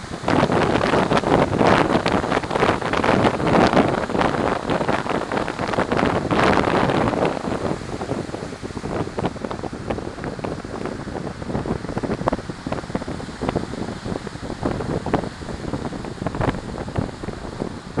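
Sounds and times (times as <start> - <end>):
wind gusting across microphone: 0.0 - 18.0.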